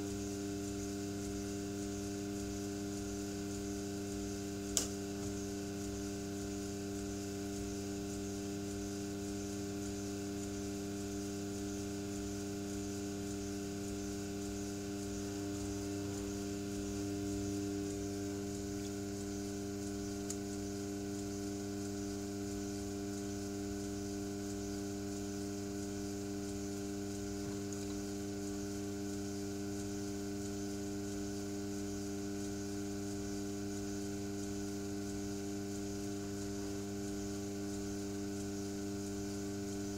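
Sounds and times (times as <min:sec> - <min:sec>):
potter's wheel motor humming: 0:00.0 - 0:39.9.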